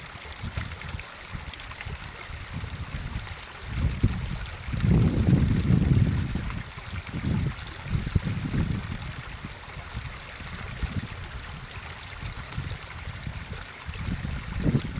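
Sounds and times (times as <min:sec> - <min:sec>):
wind buffeting microphone: 0:02.3 - 0:14.9.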